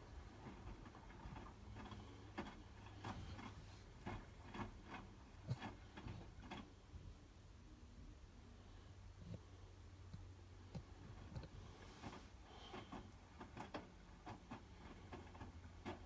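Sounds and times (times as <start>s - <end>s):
washing machine low hum: 0.0s - 16.0s.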